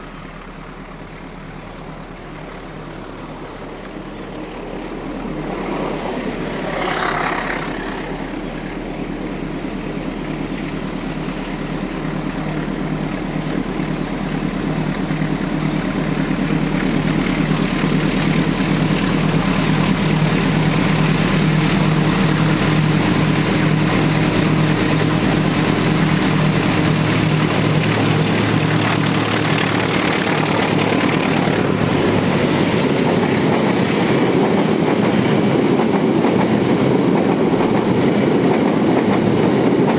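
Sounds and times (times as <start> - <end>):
locomotive engine drone: 0.0 - 39.9.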